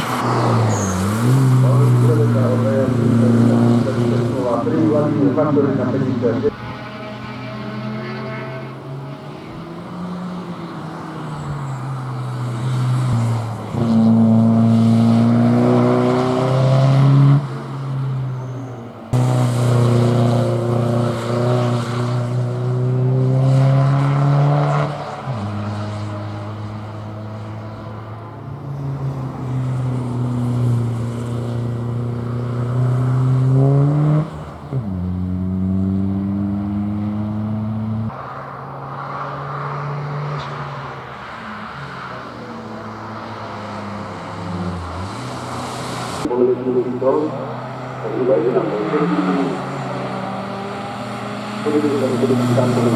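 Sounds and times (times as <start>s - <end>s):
race car engine accelerating: 0.0s - 52.9s.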